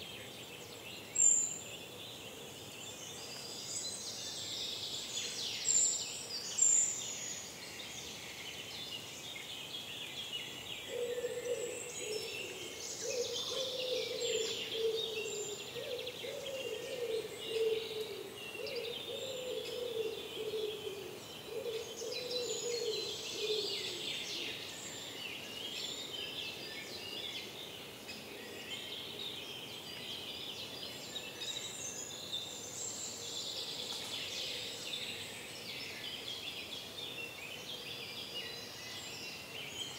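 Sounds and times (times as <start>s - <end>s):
songbirds dawn chorus: 0.0s - 39.9s.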